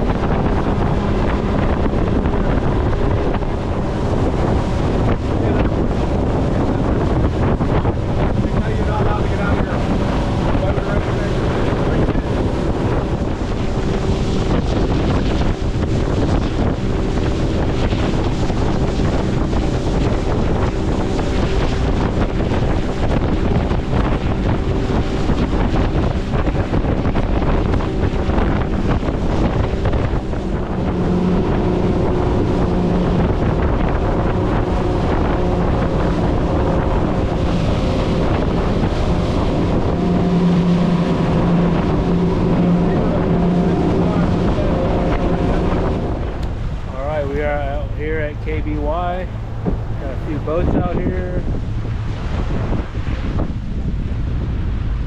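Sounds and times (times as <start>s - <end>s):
outboard engines droning: 0.0s - 55.0s
water rushing along hulls: 0.0s - 55.0s
wind buffeting microphone: 0.0s - 55.0s.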